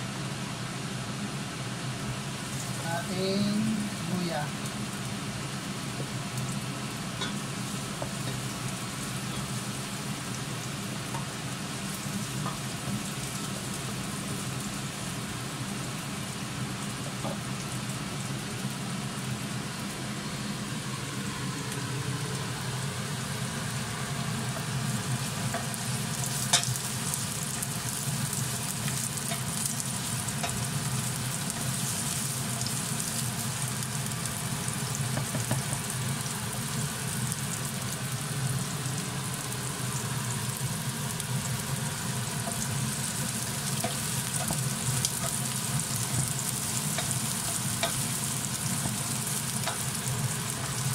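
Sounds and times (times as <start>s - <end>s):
onion sizzling in oil: 0.1s - 50.9s.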